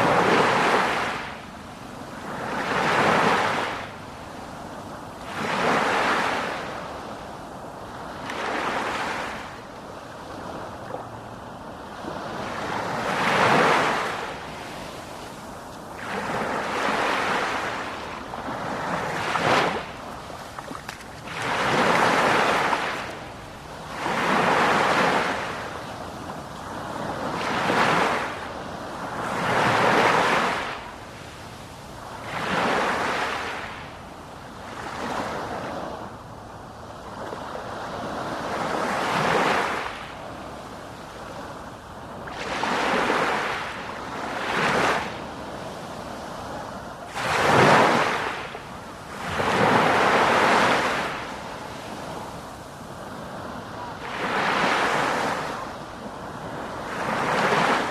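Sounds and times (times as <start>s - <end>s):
sea waves breaking: 0.0s - 34.0s, 37.1s - 57.9s.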